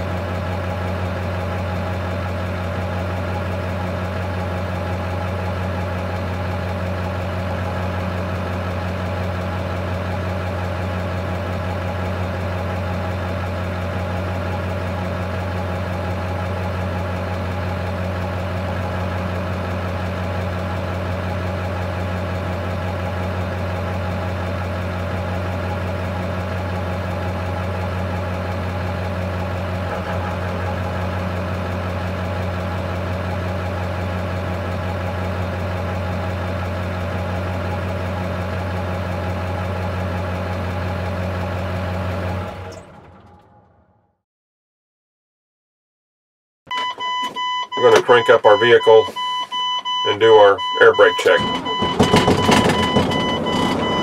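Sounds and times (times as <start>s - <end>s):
diesel truck engine idling: 0.0s - 43.9s, 46.8s - 54.0s.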